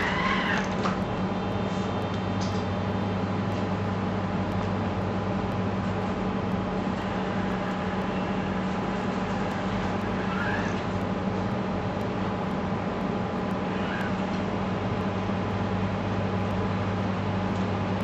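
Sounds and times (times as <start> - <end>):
electric motors humming: 0.0 - 18.0.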